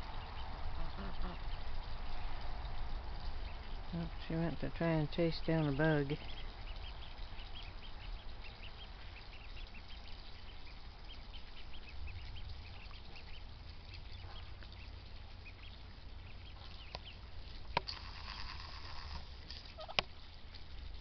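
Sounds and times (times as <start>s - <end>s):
ducklings peeping: 0.0s - 20.8s.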